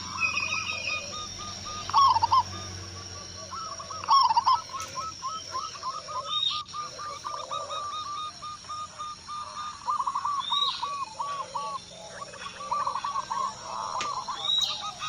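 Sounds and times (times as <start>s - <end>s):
doves cooing: 0.0s - 15.0s
small birds chirping: 0.0s - 15.0s.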